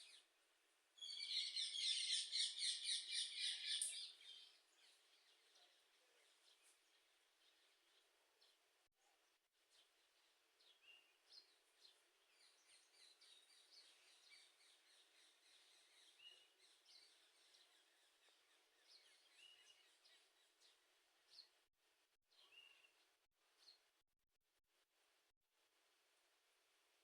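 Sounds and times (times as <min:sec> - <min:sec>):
small birds chirping: 0:00.0 - 0:00.4, 0:01.0 - 0:21.7, 0:22.3 - 0:24.0.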